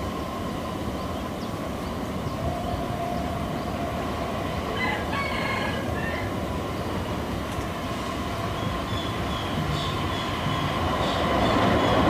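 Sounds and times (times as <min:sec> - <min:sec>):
freight train rumble: 0:00.0 - 0:12.0.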